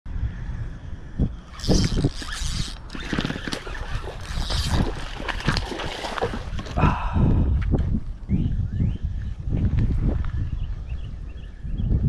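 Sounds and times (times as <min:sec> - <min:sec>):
low wind rumble on microphone: 0:00.1 - 0:12.0.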